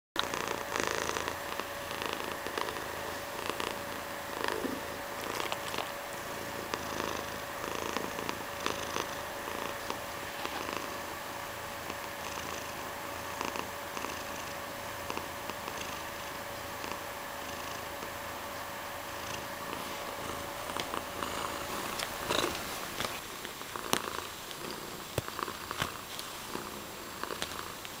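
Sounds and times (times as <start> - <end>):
cat purring: 0.2 - 28.0.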